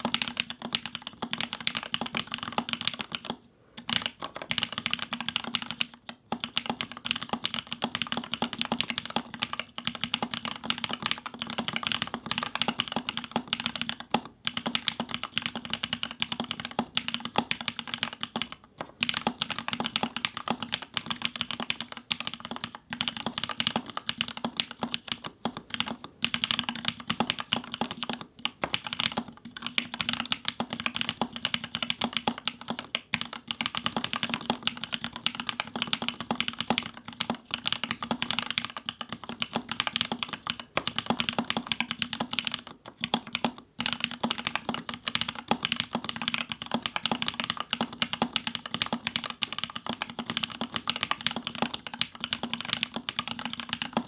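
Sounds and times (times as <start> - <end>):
fast typing on mechanical keyboard: 0.0 - 54.0.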